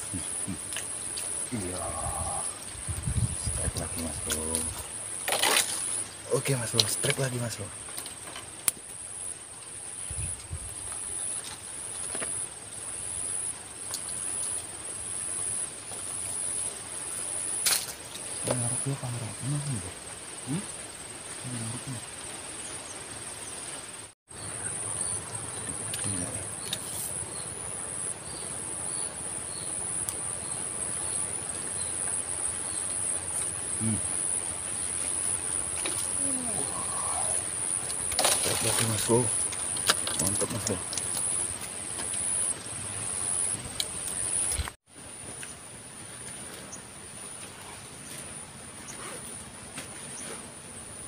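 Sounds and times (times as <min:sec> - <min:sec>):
faint open-air ambience: 0:00.0 - 0:51.0
insects droning: 0:00.0 - 0:51.0.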